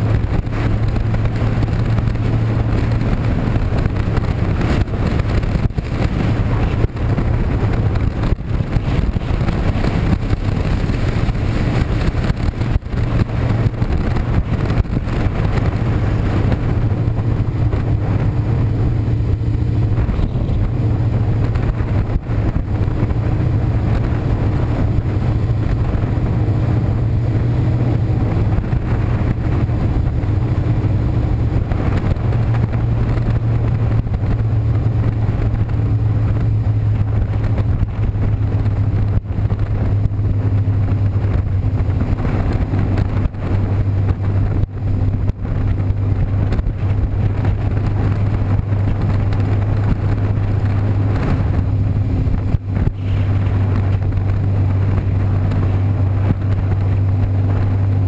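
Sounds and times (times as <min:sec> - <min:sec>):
motorcycle engine running: 0:00.0 - 0:58.0
rushing wind noise: 0:00.0 - 0:58.0.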